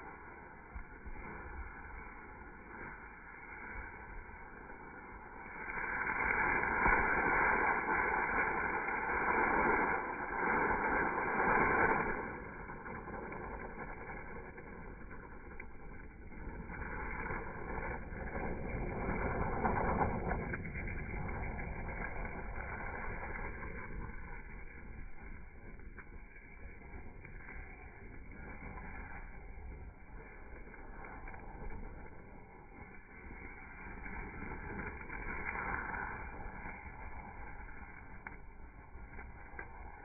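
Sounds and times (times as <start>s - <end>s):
firework rushing hiss: 0.0s - 40.0s.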